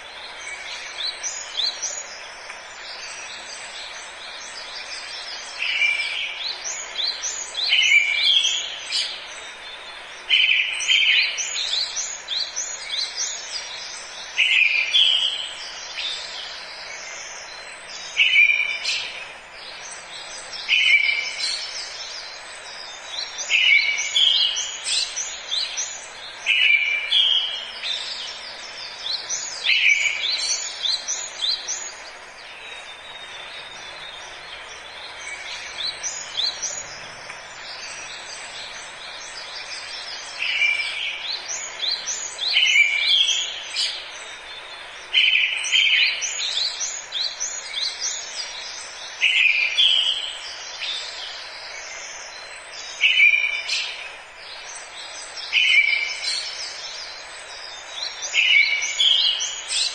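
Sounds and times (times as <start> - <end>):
birds chirping: 0.0 - 59.9
forest background hiss: 0.0 - 59.9.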